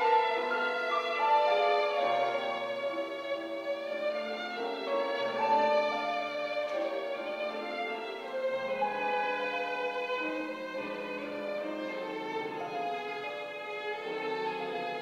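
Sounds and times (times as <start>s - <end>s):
violin and piano classical music: 0.0s - 15.0s.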